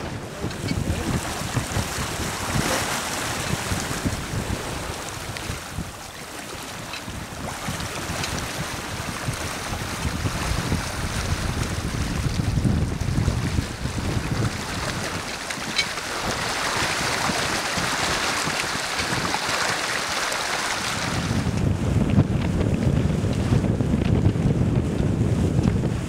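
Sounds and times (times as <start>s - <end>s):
water splashing along boat hull: 0.0s - 26.0s
wind buffeting microphone: 0.0s - 26.0s.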